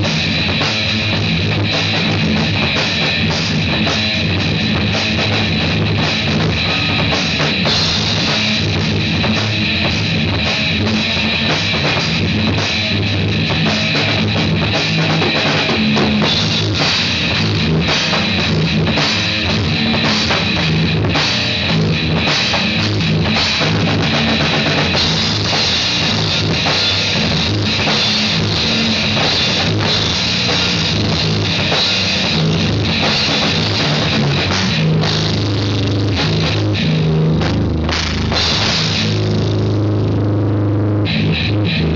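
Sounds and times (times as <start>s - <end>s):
heavy rock drums and guitar: 0.0s - 41.9s.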